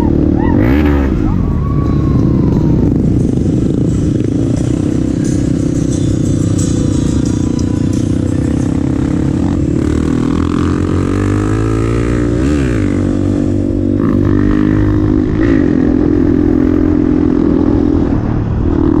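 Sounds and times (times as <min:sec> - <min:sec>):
dirt bike engine running: 0:00.0 - 0:17.2.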